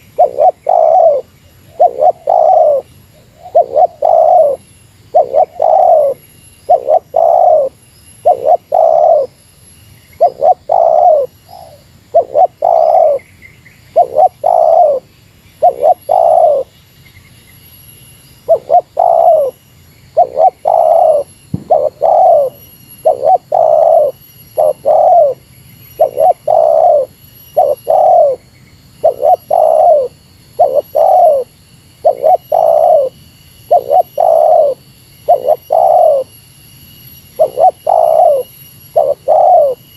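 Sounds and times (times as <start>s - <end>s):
dove cooing: 0.0s - 9.4s, 10.2s - 13.2s, 13.9s - 16.7s, 18.5s - 25.4s, 26.0s - 28.4s, 29.0s - 36.3s, 37.4s - 39.9s.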